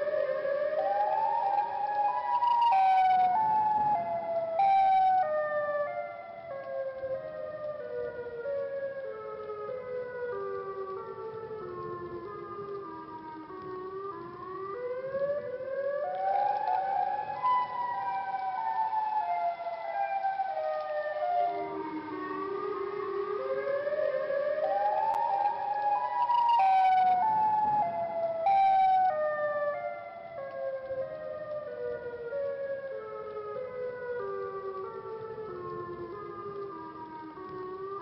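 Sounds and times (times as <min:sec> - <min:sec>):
eerie electronic siren-like tones: 0:00.0 - 0:38.0.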